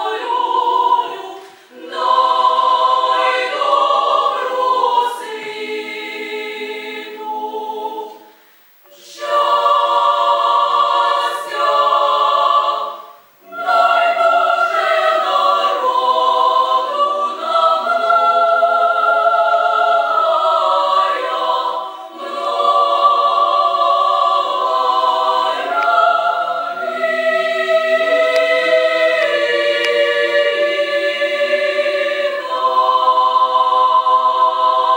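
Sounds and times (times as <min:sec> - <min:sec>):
female choir singing a cappella: 0:00.0 - 0:08.3, 0:08.9 - 0:34.9.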